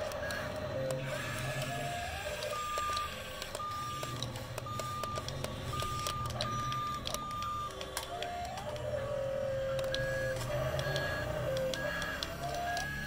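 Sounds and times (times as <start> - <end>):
small electric motors humming: 0.0 - 13.0
toy excavator warning beeps: 0.0 - 13.0.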